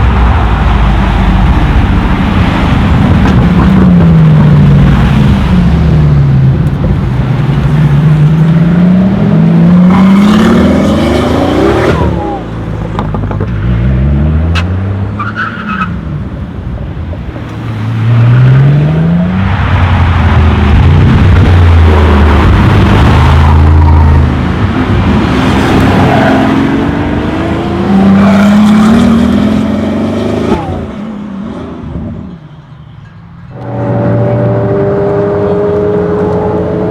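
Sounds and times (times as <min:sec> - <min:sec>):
supercar engines revving: 0:00.0 - 0:32.2, 0:33.5 - 0:36.9.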